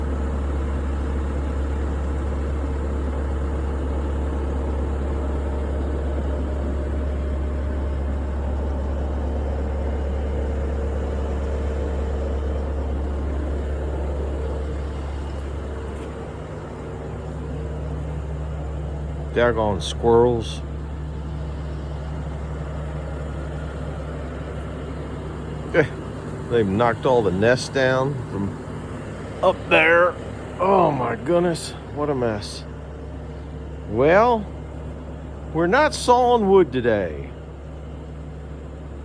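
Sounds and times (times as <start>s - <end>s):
low mechanical hum: 0.0s - 39.0s
faint whine: 5.8s - 37.4s.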